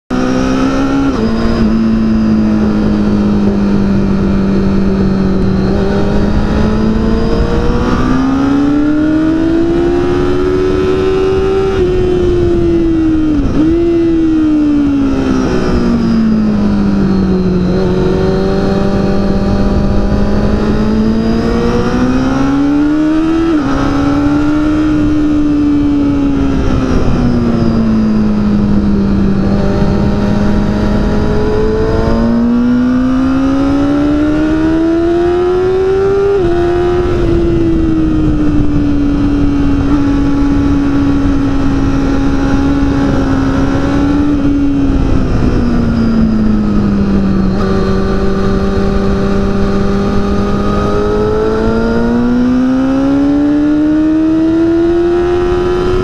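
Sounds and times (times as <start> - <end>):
sport bike engine at speed: 0.0 - 56.0
noisy wind rush: 0.1 - 56.0.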